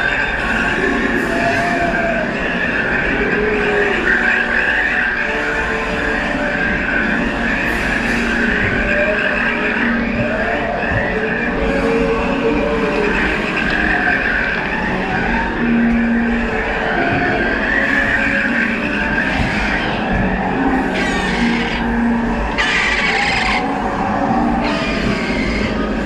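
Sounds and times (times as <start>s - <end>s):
train rumbling on track: 0.0s - 26.0s
wheels squealing on rail: 0.0s - 26.0s.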